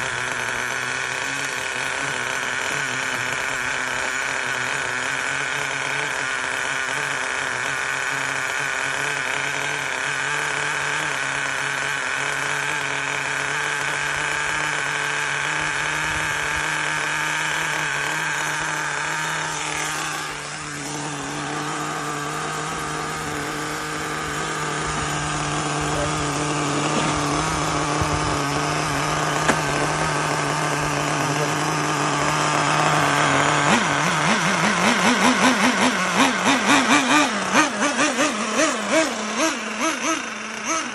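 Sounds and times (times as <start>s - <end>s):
model car engine idling: 0.0s - 40.9s.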